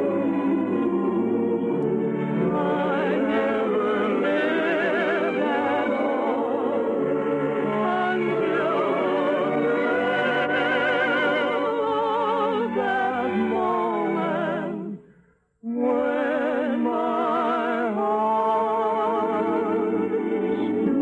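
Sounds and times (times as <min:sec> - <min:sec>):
orchestral music on old radio: 0:00.0 - 0:15.1, 0:15.8 - 0:21.0.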